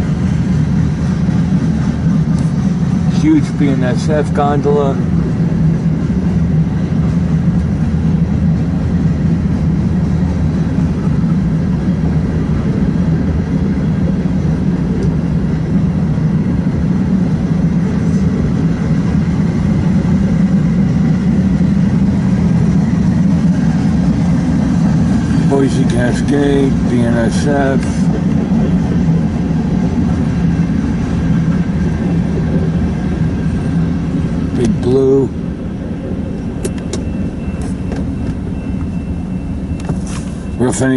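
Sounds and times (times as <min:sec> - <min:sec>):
freight train wheels rumbling on rails: 0:00.0 - 0:40.9.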